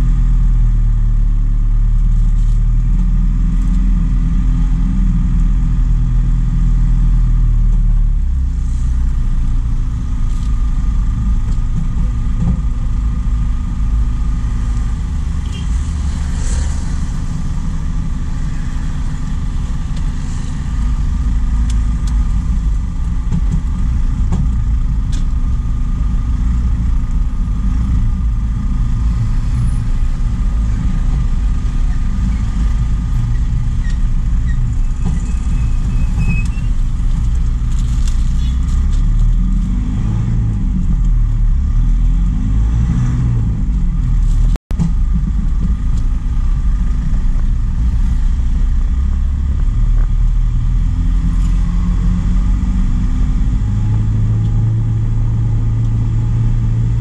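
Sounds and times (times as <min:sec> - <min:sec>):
constant hum: 0:00.0 - 0:57.0
truck engine rumble: 0:00.0 - 0:57.0.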